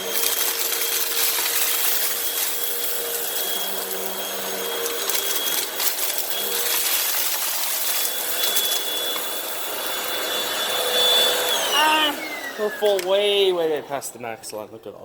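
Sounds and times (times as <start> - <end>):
vacuum cleaner whine: 0.0 - 14.3.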